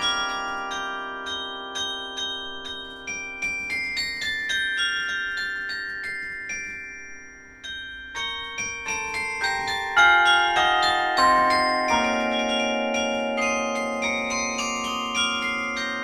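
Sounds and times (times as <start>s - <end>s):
carillon bells playing melody: 0.0s - 16.0s.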